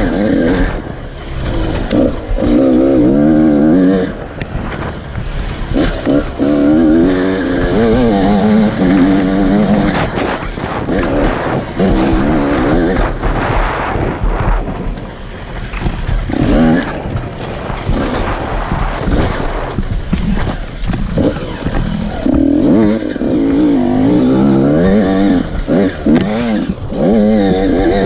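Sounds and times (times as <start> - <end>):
dirt bike engine revving: 0.0 - 28.0
steady rushing noise: 0.0 - 28.0.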